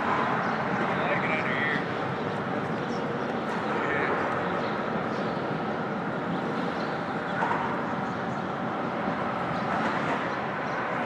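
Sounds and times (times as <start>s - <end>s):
birds calling: 0.0s - 11.0s
traffic rumble overhead: 0.0s - 11.0s.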